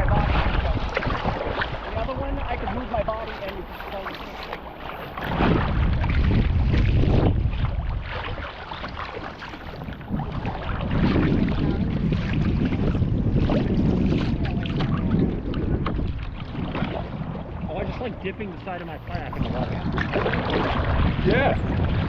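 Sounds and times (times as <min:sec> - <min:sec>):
water splashing against kayak: 0:00.0 - 0:22.0
wind rumbling on microphone: 0:00.0 - 0:22.0.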